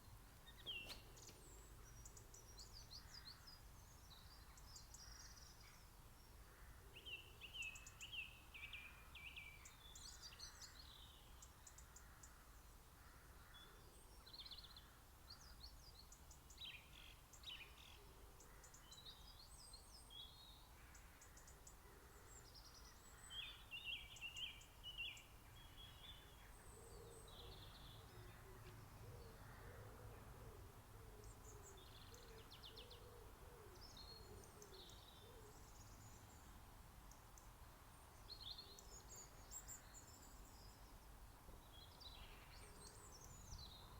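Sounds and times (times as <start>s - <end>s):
background hiss: 0.0s - 43.9s
songbirds trilling and chirping: 0.0s - 43.9s.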